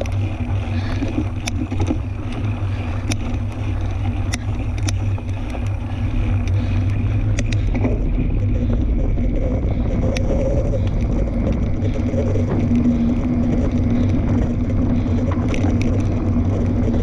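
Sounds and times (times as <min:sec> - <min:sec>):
bike tyres rolling on dirt: 0:00.0 - 0:17.0
wind buffeting microphone: 0:00.0 - 0:17.0.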